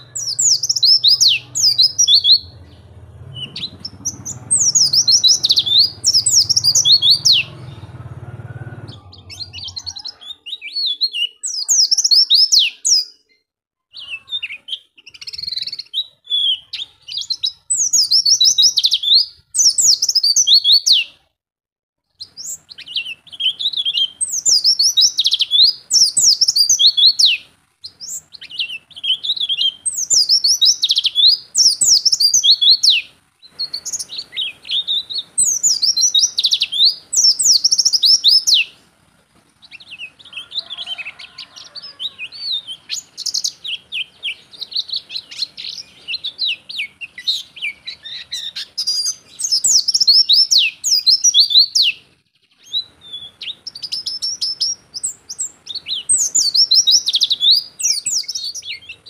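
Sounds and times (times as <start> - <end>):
bird chirping twitters: 0.0 - 8.1, 8.8 - 21.2, 22.1 - 38.9, 39.6 - 59.0.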